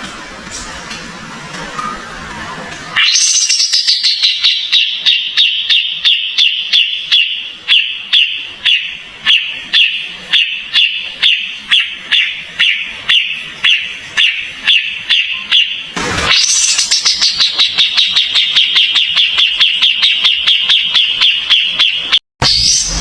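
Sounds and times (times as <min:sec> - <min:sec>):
bird calling sharp notes: 0:03.0 - 0:23.0.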